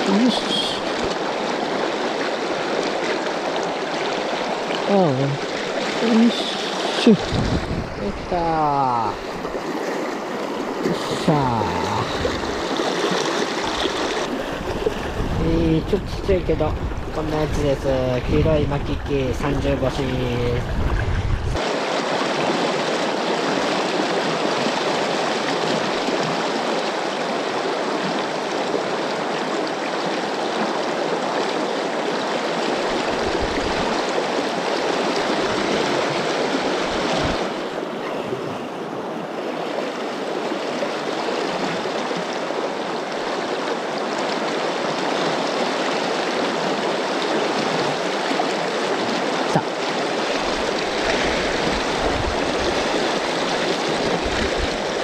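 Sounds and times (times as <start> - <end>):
river rapids rushing: 0.0 - 15.5, 21.6 - 55.0.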